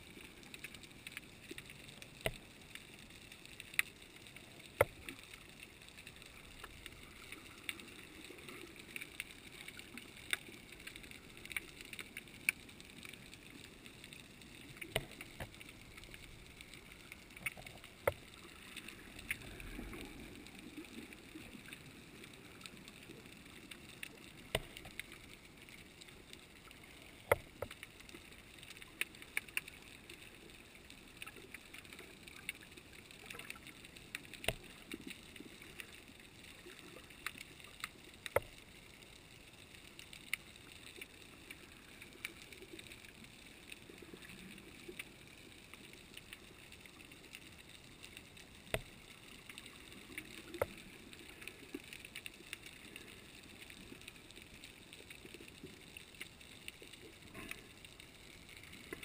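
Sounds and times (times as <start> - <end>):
underwater water noise: 0.0 - 59.0.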